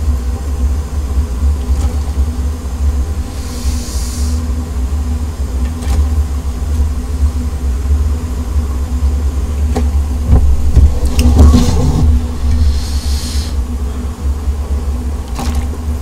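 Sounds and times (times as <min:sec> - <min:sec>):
gas burners rumbling: 0:00.0 - 0:16.0.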